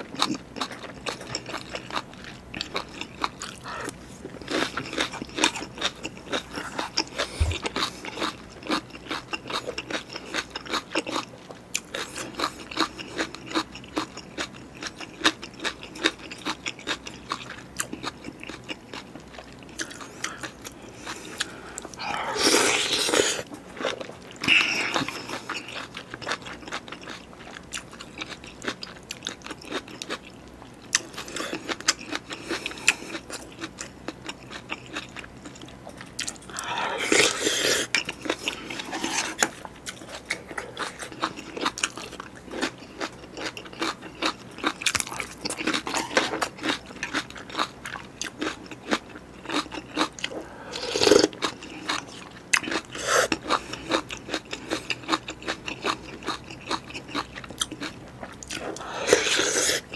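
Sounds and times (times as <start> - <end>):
chewing and crunching food: 0.0 - 59.9.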